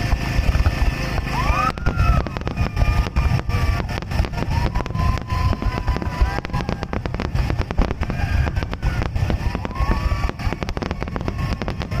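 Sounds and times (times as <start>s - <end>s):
fireworks booming and crackling: 0.0s - 12.0s
whistling firework shells: 0.1s - 12.0s.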